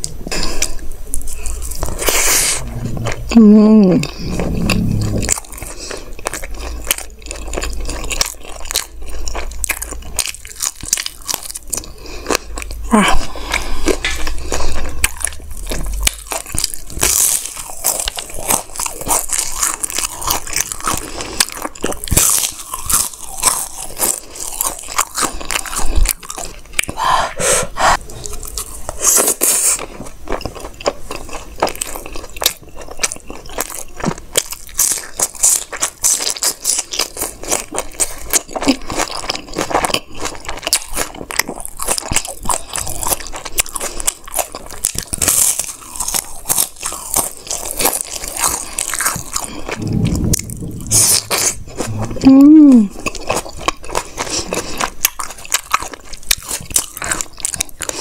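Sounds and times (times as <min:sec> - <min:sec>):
crunching and chewing: 0:00.0 - 0:03.4, 0:04.0 - 0:27.2, 0:27.9 - 0:52.2, 0:52.8 - 0:58.0.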